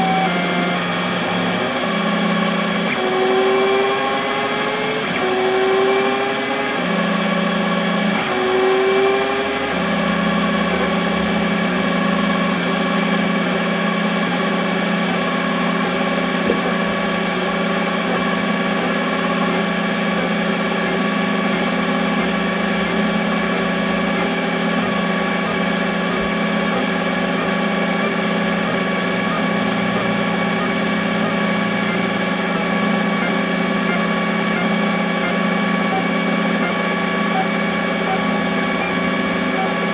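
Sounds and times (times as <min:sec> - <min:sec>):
printer machine hum: 0:00.0 - 0:39.9.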